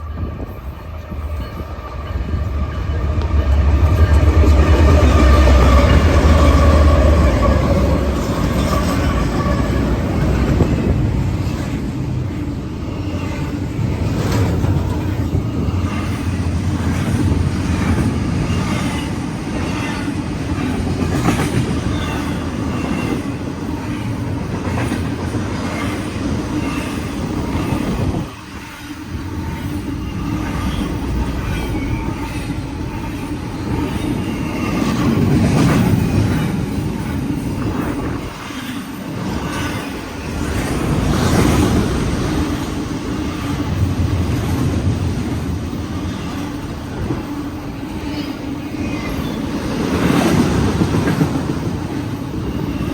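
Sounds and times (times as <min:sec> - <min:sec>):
train cars rumbling past: 0:00.0 - 0:52.9.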